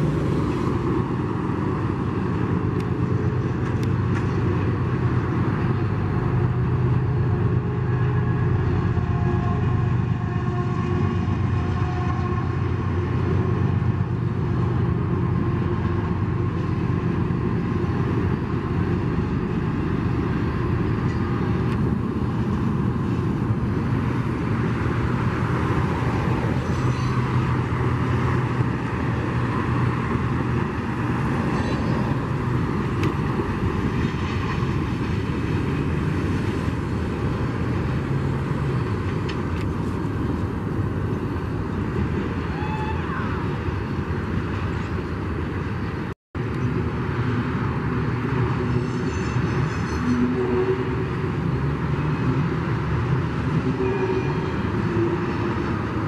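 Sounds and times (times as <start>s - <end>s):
diesel locomotive drone: 0.0s - 56.0s
train wheels rolling on rails: 0.0s - 56.0s.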